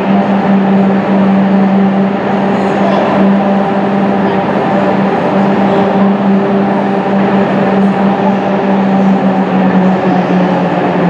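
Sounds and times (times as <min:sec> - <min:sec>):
machinery noise: 0:00.0 - 0:11.0
stationary train humming: 0:00.0 - 0:11.0.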